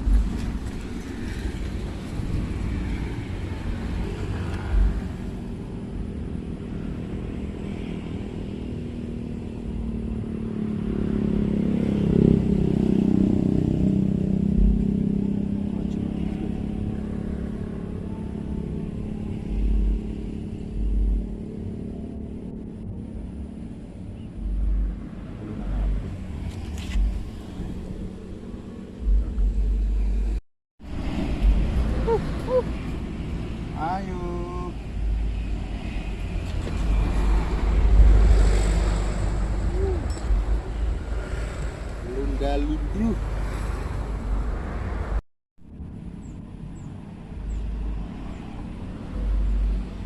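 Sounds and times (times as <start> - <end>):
traffic rumble on bridge overhead: 0.0 - 50.0.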